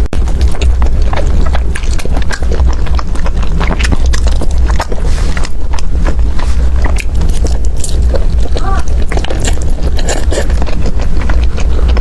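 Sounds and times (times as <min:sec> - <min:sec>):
crunchy chewing: 0:00.0 - 0:12.0
low steady rumble: 0:00.0 - 0:12.0.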